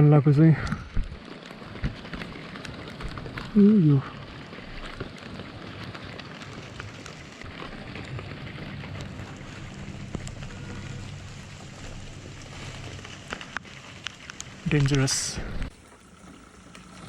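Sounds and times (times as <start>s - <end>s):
low steady hum: 0.0s - 17.0s
drizzle drops ticking: 0.2s - 17.0s.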